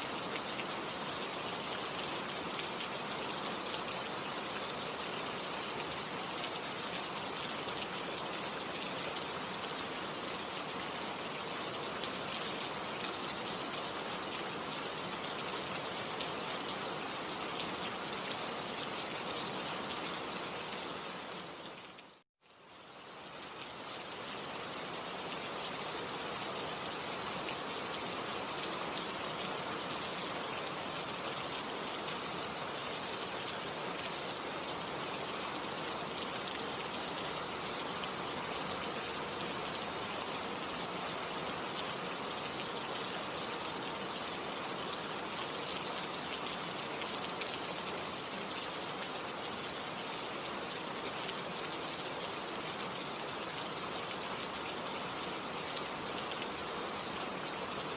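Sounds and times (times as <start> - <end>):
rain hiss: 0.0 - 57.9.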